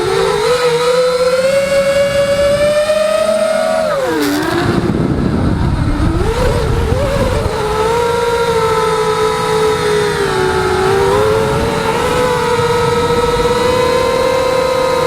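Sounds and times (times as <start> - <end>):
quadcopter motors whining: 0.0 - 15.0
wind noise: 0.0 - 15.0.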